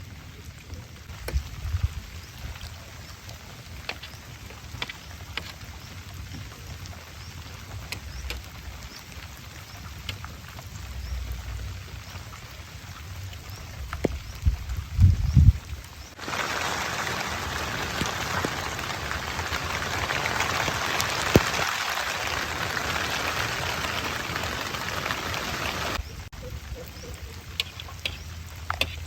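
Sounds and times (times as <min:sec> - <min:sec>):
rain hiss: 0:00.0 - 0:29.0
raindrops ticking: 0:00.7 - 0:29.0.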